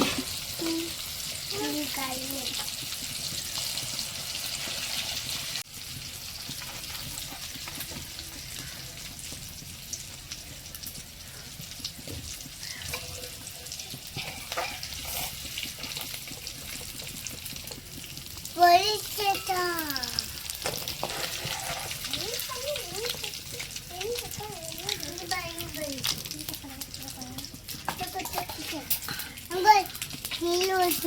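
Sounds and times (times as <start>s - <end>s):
fish roe sizzling in oil: 0.0s - 31.0s.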